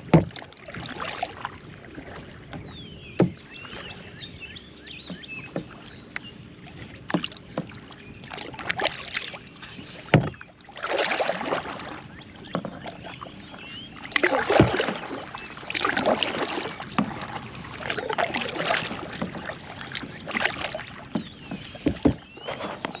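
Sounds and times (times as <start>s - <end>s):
paddle splashing in water: 0.0s - 23.0s.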